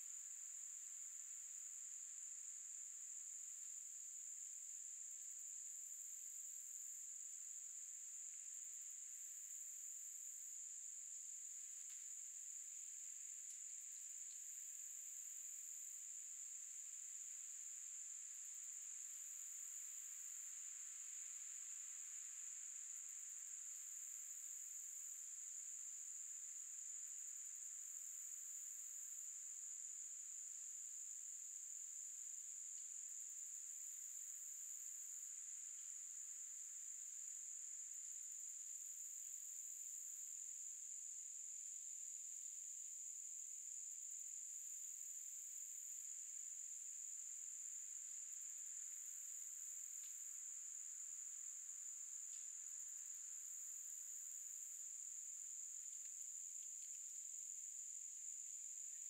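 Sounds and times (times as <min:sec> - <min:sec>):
higher insect call: 0:00.0 - 0:59.0
insects chirring: 0:00.0 - 0:59.0.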